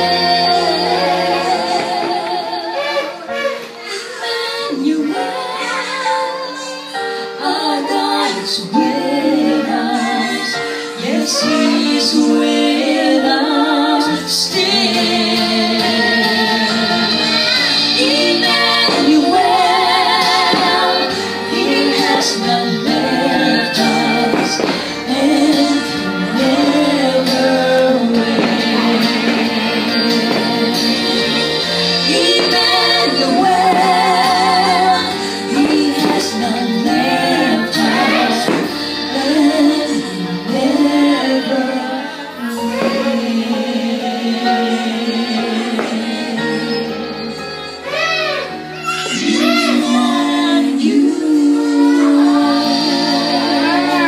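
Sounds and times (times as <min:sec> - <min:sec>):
woman singing with vibrato: 0:00.0 - 0:03.5, 0:04.1 - 0:48.0, 0:49.1 - 0:54.0
sustained accompaniment: 0:07.7 - 0:54.0.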